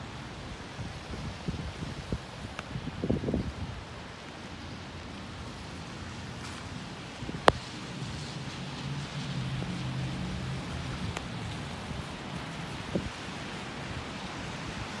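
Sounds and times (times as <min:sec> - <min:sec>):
rain hissing: 0:00.0 - 0:15.0
wet traffic: 0:00.0 - 0:15.0.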